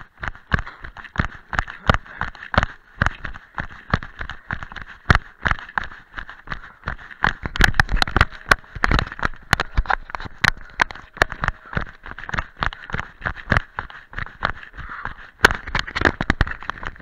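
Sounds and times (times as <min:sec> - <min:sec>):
footsteps crunching on stones and leaves: 0:00.0 - 0:17.0.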